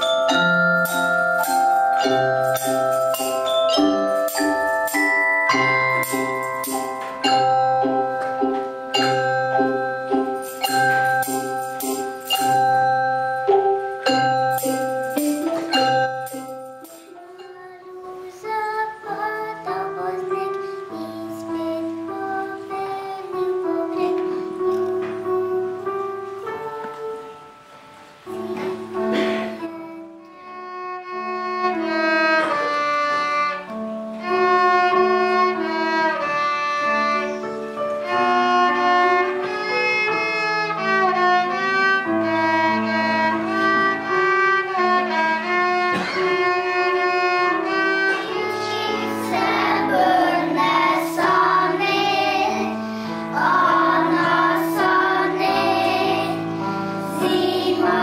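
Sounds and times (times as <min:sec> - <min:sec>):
keyboard accompaniment: 0:00.0 - 0:58.0
violin melody: 0:00.0 - 0:58.0.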